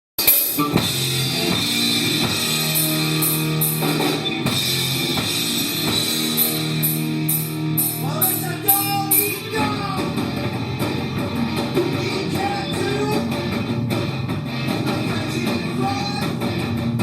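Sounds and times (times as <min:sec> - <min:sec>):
drum beats: 0:00.2 - 0:17.0
electric guitar chords: 0:00.2 - 0:17.0.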